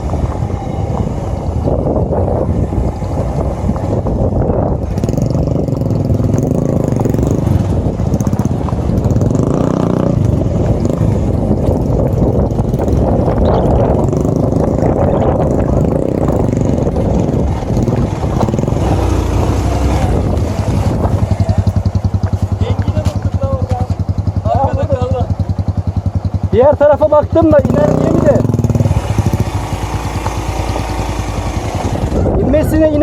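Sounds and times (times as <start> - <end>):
small motorcycle engine running: 0.0 - 33.0.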